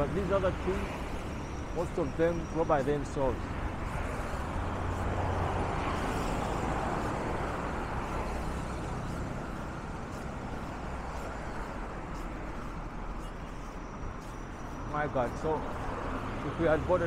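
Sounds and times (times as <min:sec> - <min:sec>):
cars and motorcycles passing: 0:00.0 - 0:17.0.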